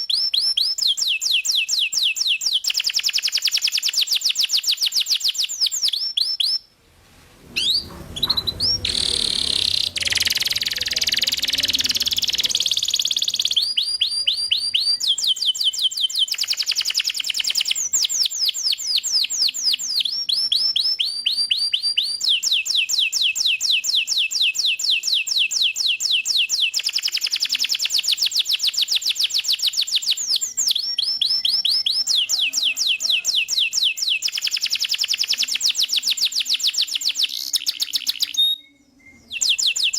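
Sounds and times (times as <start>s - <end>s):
canary singing trills: 7.6s - 39.9s.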